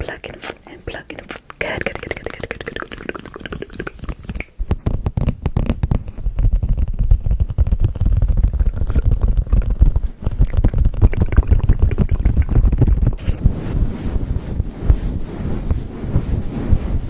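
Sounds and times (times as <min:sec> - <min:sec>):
hands rubbing on microphone: 0:00.0 - 0:17.0.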